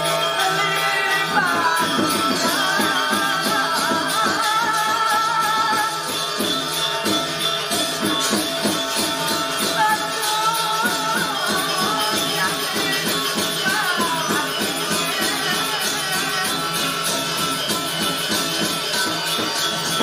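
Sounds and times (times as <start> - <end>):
drums beating fast pulse: 0.0 - 20.0
metallophones ringing: 0.0 - 20.0
wavering high melody: 0.0 - 20.0.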